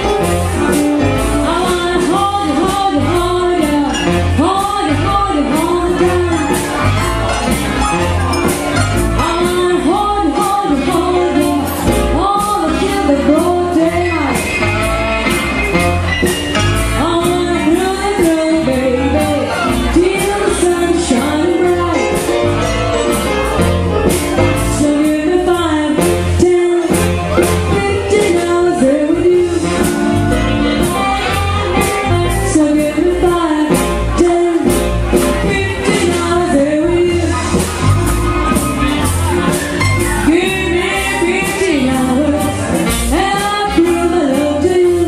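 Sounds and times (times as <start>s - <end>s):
live blues band playing: 0.0s - 45.0s.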